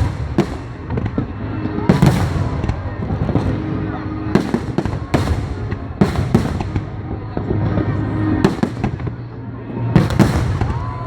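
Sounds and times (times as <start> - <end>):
firework bangs: 0.0 - 9.2, 9.9 - 11.0
firework crackling and rumble: 0.0 - 11.0.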